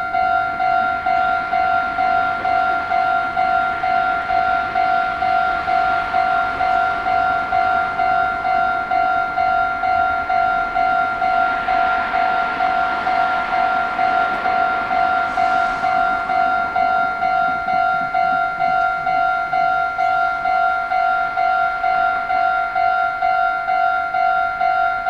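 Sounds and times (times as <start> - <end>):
level-crossing warning bell: 0.0 - 25.0
rumble: 0.0 - 25.0.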